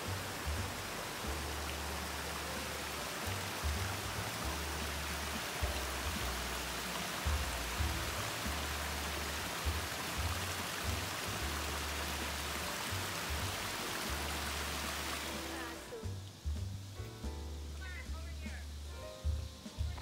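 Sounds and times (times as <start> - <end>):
background music with bass: 0.0 - 20.0
water cascading into pond: 0.0 - 20.0.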